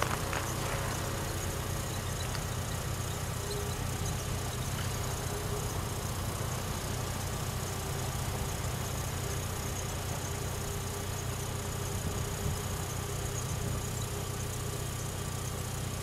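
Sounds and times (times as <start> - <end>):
train equipment low hum: 0.0 - 14.4
faint steady whine: 0.0 - 16.0.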